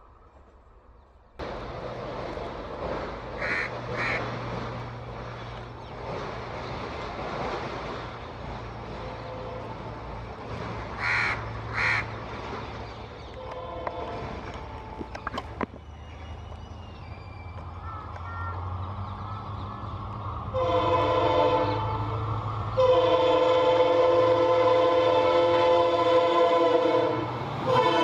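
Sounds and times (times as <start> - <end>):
diesel locomotive engine drone: 0.0 - 28.0.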